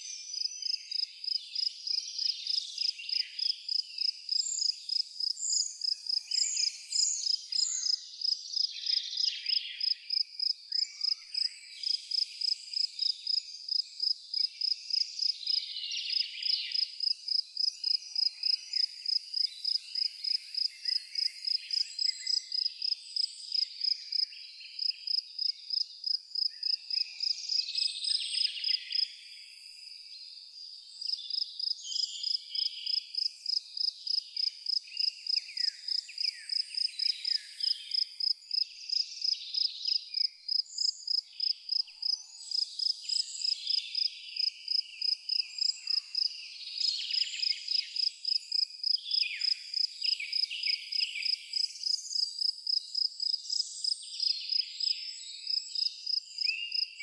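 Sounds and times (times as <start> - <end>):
cricket chirping: 0.0 - 30.0, 30.6 - 57.0.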